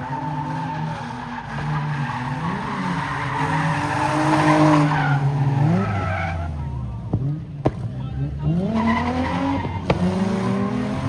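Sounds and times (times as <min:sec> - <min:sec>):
tires screeching: 0:00.0 - 0:11.0
car engine revving: 0:00.9 - 0:11.0.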